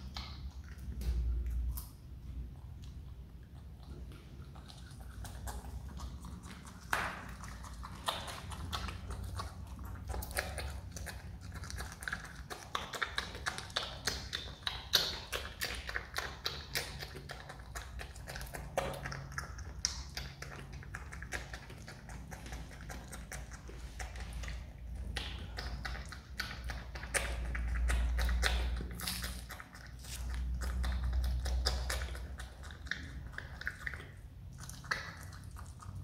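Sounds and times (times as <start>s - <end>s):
animal chewing and smacking: 0.0s - 36.0s.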